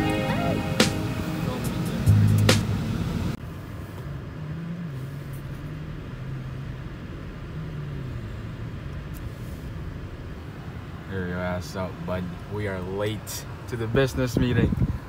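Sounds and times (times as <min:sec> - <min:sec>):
car engine hum: 0:00.0 - 0:15.0
road noise inside car: 0:00.0 - 0:15.0.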